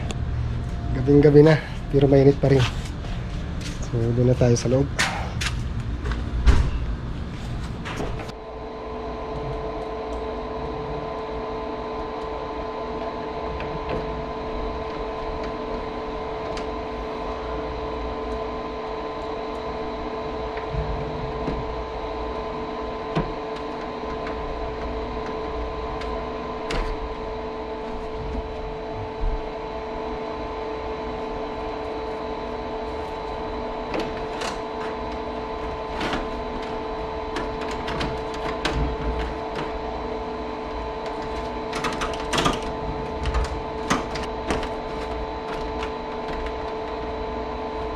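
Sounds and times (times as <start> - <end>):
air conditioner humming: 0.0 - 47.9.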